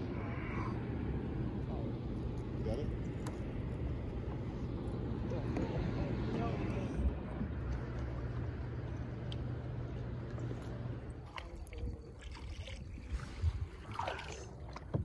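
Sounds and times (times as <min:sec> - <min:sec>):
low water rumble: 0:00.0 - 0:15.0
water lapping and splashing: 0:01.7 - 0:15.0.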